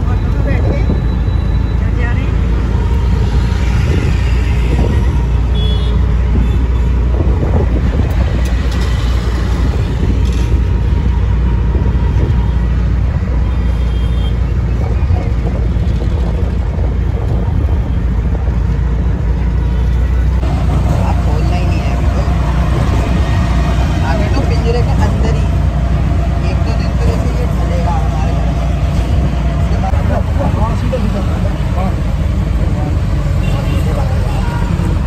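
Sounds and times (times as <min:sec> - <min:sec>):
auto-rickshaw engine drone: 0:00.0 - 0:35.0
road noise: 0:00.0 - 0:35.0.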